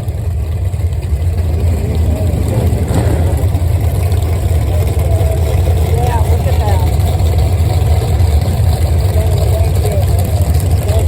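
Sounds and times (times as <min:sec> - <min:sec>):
car engine idling: 0:00.0 - 0:11.0
faint voices: 0:01.0 - 0:11.0.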